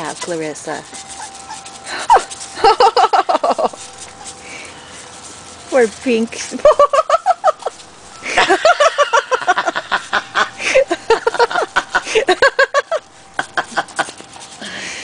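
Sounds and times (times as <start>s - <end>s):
puppies squealing and whimpering: 0.0s - 5.7s, 6.6s - 14.6s.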